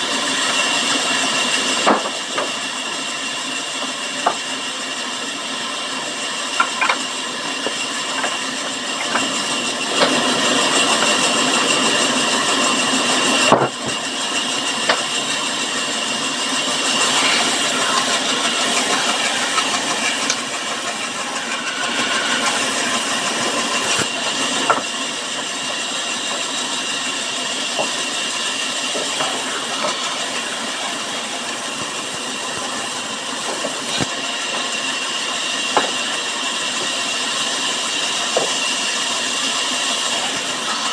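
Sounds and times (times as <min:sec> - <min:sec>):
saw cutting through wood: 0:00.0 - 0:40.9.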